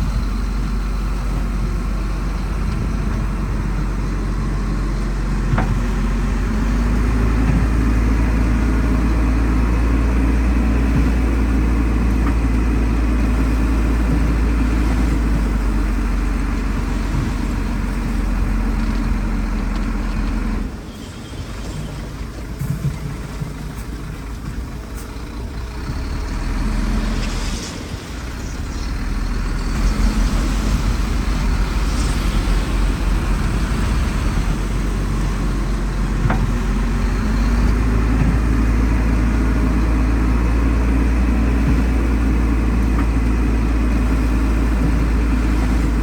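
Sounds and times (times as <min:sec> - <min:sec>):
heavy diesel engine rumbling: 0:00.0 - 0:46.0.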